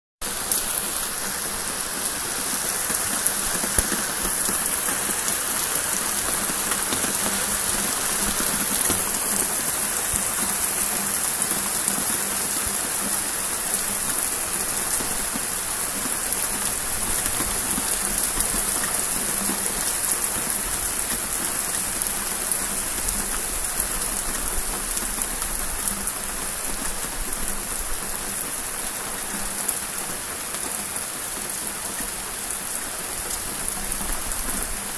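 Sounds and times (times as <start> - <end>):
rain falling steadily: 0.2 - 34.9.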